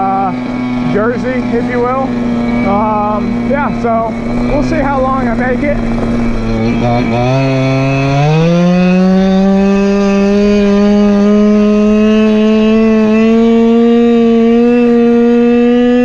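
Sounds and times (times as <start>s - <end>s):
small gas engine revving: 0.0s - 16.0s.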